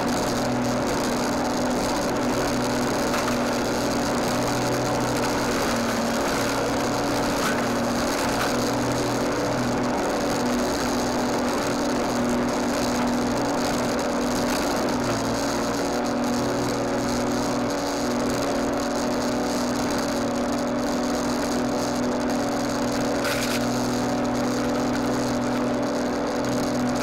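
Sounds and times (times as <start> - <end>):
lawnmower running: 0.0 - 27.0.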